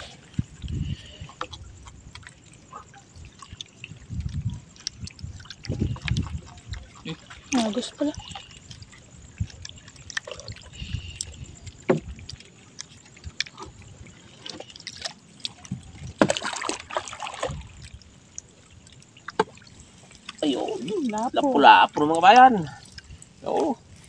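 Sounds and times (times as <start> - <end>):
water dripping and splashing: 0.0 - 24.0
wet net hauled from water: 0.0 - 24.0.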